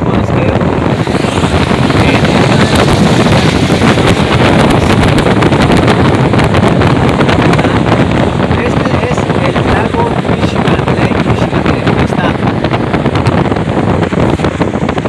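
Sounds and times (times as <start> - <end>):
car road noise on wet road: 0.0 - 15.0
wind rushing over microphone: 0.0 - 15.0.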